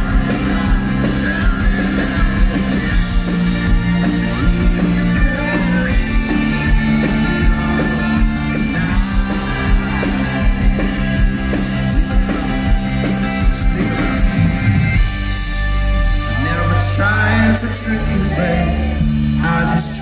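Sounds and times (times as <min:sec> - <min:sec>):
drum beat with cymbals: 0:00.0 - 0:16.3
electric guitars: 0:00.0 - 0:20.0.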